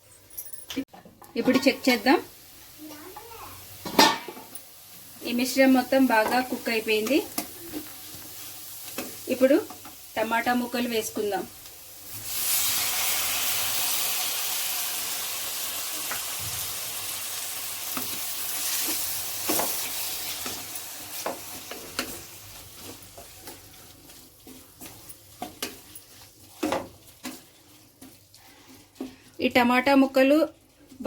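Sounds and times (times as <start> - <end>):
tomatoes sizzling in hot oil: 1.4 - 31.0.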